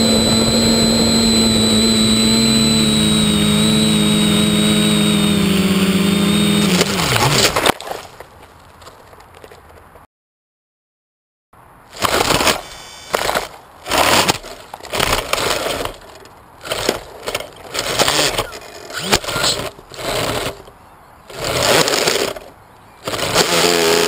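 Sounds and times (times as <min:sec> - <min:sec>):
leaves and twigs scraping camera: 0:00.0 - 0:09.6, 0:12.0 - 0:23.8.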